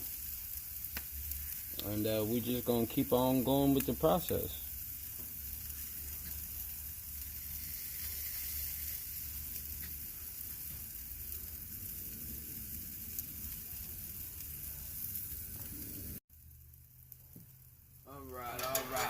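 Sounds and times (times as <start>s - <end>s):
chicken sizzling on a grill: 0.0s - 19.0s.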